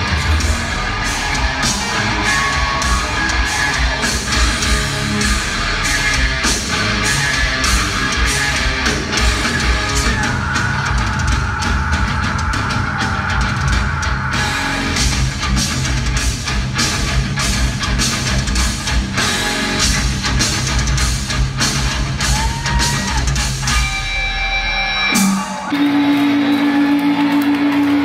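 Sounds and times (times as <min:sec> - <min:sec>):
drum kit hits: 0:00.0 - 0:24.2
distorted electric guitars: 0:00.0 - 0:28.0
live rock band: 0:00.0 - 0:28.0.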